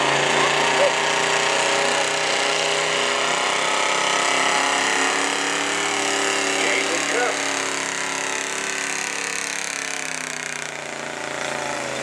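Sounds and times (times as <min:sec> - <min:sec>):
pickup truck engine revving hard: 0:00.0 - 0:12.0.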